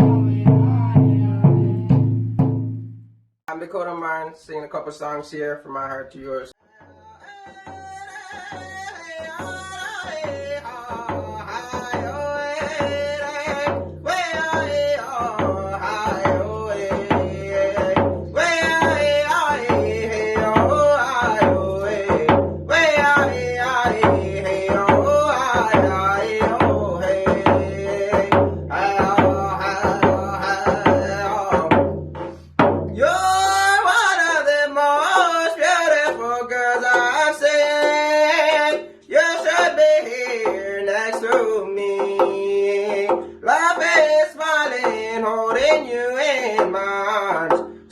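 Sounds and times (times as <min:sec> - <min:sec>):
person singing: 0:00.0 - 0:02.2, 0:06.6 - 0:31.9, 0:33.0 - 0:47.6
steady drum beat: 0:00.0 - 0:02.9, 0:06.8 - 0:34.2, 0:34.9 - 0:47.9.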